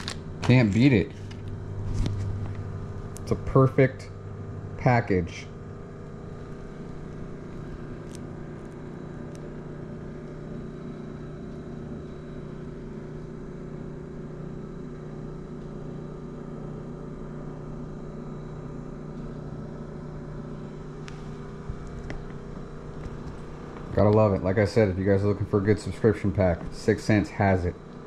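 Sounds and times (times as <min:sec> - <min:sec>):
low machine hum with tones: 0:00.0 - 0:28.0.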